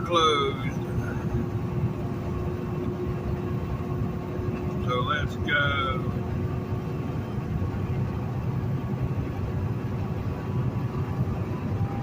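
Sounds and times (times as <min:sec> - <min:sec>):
truck engine and tyre rumble: 0:00.0 - 0:12.0.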